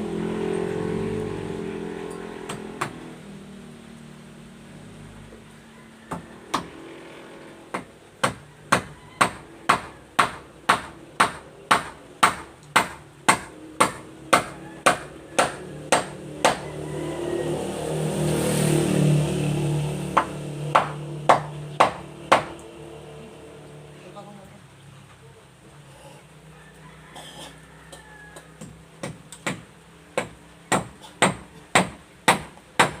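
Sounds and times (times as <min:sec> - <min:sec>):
engine hum: 0:00.0 - 0:30.7.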